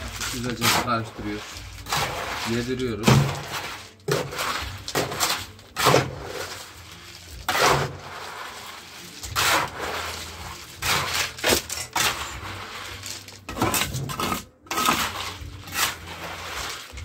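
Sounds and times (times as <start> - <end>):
tool scraping gritty mortar: 0.0 - 17.0.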